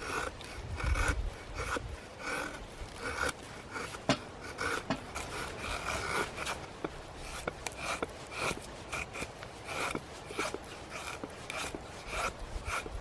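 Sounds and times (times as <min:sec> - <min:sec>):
short rasping sounds: 0:00.0 - 0:13.0.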